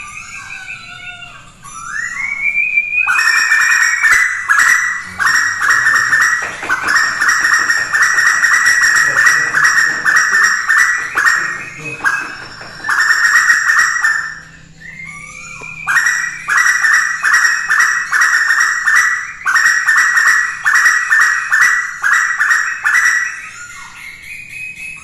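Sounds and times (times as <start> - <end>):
koel calling: 0.0 - 24.0.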